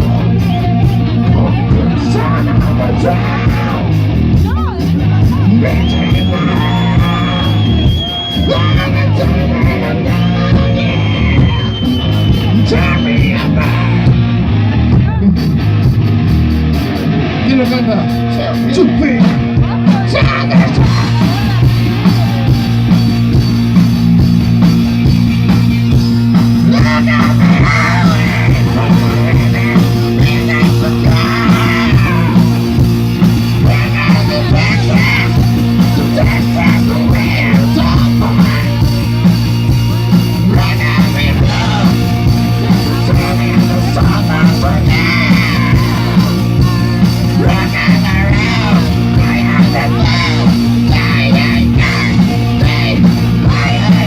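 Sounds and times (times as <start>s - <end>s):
shouted and sung vocals: 0.0s - 15.4s, 17.8s - 23.8s, 26.1s - 54.0s
loud rock music: 0.0s - 54.0s.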